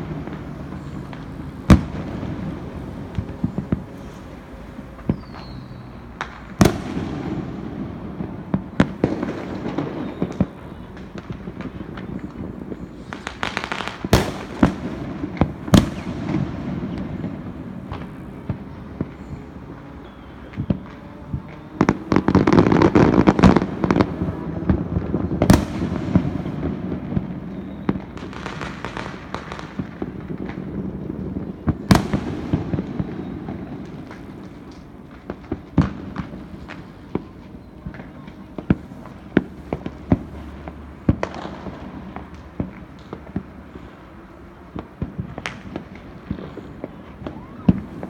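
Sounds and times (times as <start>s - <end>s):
firework bangs: 0.0s - 48.0s
fireworks crackling: 0.0s - 48.0s.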